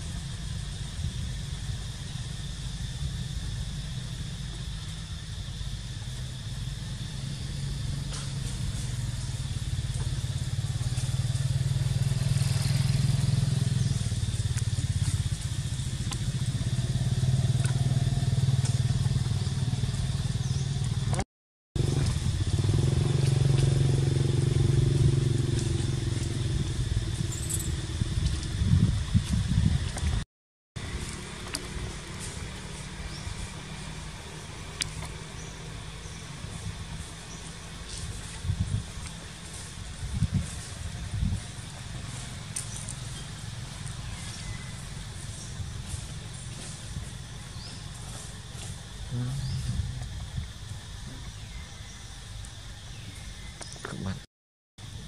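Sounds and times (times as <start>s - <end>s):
passing motor vehicles rumbling: 0.0s - 21.2s, 21.8s - 29.4s, 30.8s - 51.4s.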